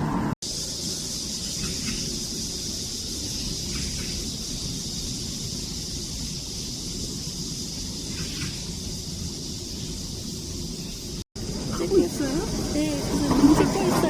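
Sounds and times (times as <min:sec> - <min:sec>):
cicadas singing: 0:00.4 - 0:14.0.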